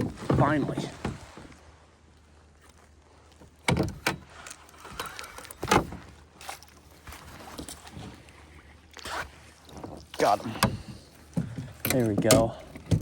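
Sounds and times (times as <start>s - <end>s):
knocks and clatters in a canoe: 0.0s - 13.0s.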